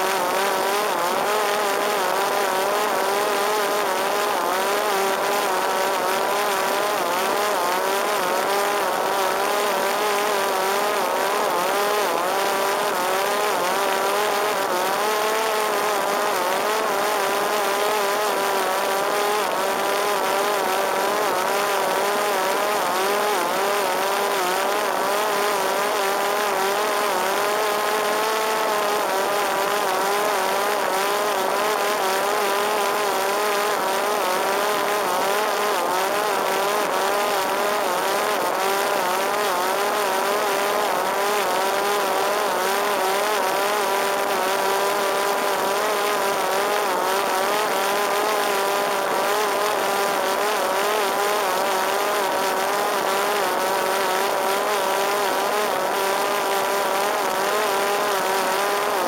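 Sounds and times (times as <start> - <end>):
drone motor and propeller whining: 0.0 - 59.0.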